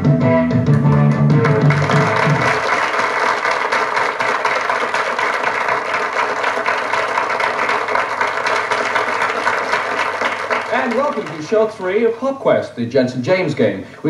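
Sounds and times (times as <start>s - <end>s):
audience applauding: 0.7s - 12.2s.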